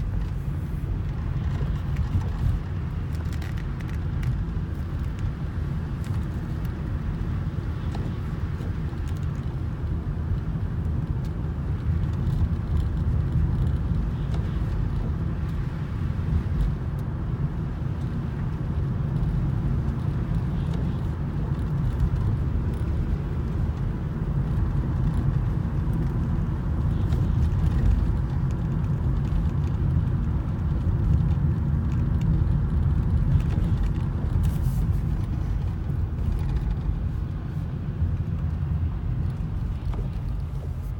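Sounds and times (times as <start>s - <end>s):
vehicle rumble: 0.0s - 40.9s.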